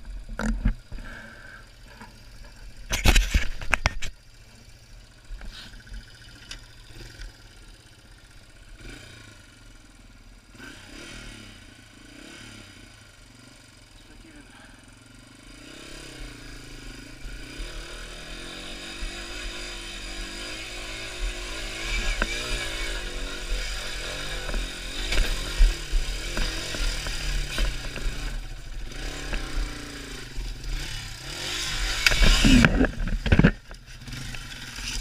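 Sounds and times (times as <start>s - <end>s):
motorcycle engine under load: 0.0s - 35.0s.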